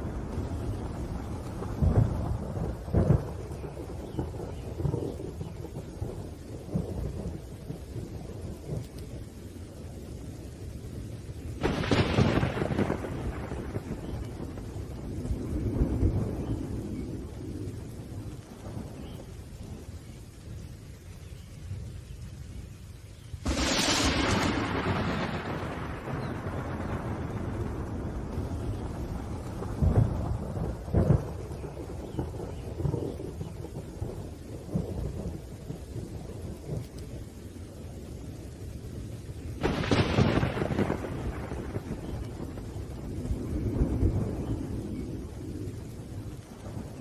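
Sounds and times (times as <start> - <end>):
steady rain: 0.0 - 47.0
thunder rumbling: 0.0 - 47.0.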